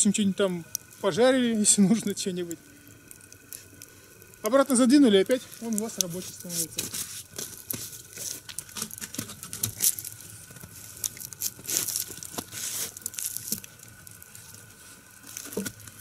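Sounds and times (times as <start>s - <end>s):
faint fire hiss: 0.0s - 16.0s
log fire crackling: 0.0s - 16.0s.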